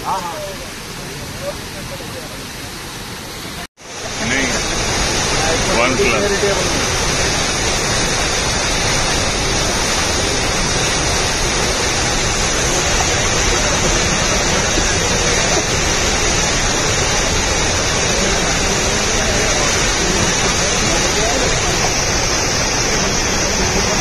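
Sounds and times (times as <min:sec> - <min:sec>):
water gushing from burst pipe: 0:03.9 - 0:24.0.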